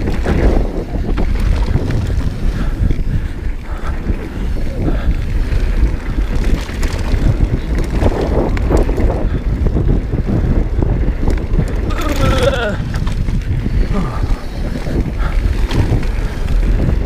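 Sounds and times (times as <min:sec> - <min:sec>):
mountain bike rumble and clatter: 0:00.0 - 0:17.0
wind buffeting microphone: 0:00.0 - 0:17.0.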